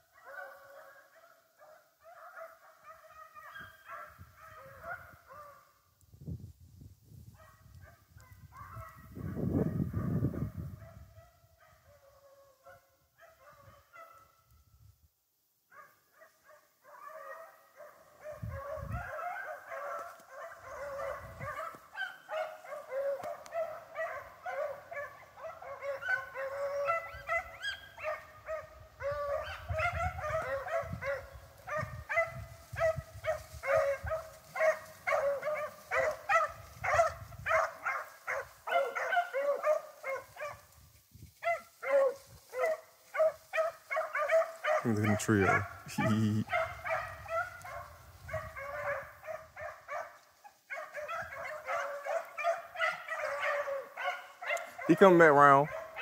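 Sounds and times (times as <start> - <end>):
hounds baying and barking: 0.0 - 5.8, 7.3 - 14.4, 15.7 - 56.0.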